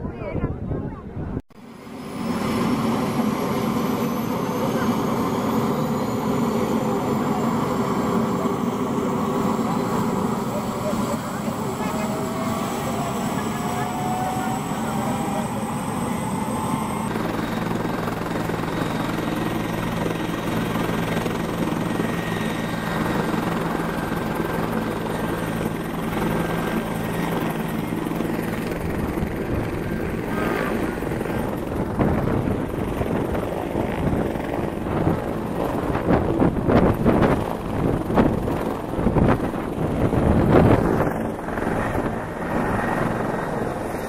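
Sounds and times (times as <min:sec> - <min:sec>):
helicopter rotor and engine hum: 0:00.0 - 0:44.0.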